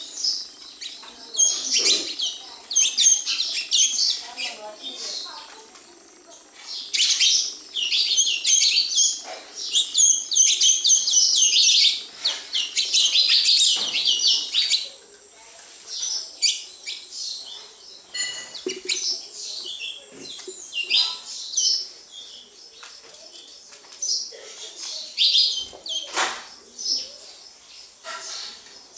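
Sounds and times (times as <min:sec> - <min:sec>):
sparrows chirping: 0:00.0 - 0:28.9.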